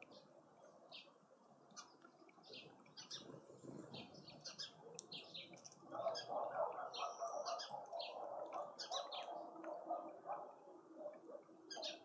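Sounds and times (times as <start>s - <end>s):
lower busy bird chattering: 0.0s - 12.0s
small birds chirping: 0.0s - 12.0s.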